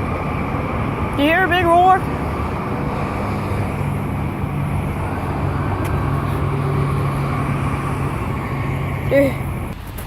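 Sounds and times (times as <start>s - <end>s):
passing traffic road noise: 0.0s - 10.0s
truck diesel engine roar: 0.0s - 10.0s.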